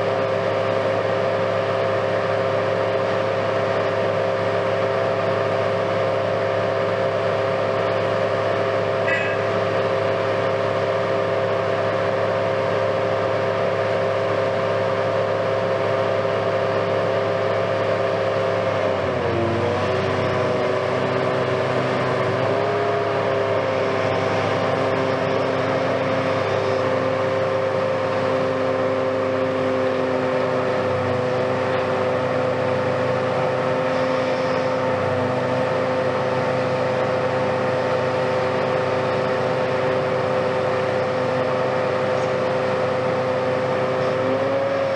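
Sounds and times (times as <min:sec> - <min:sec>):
excavator engine and hydraulics whining: 0:00.0 - 0:44.9.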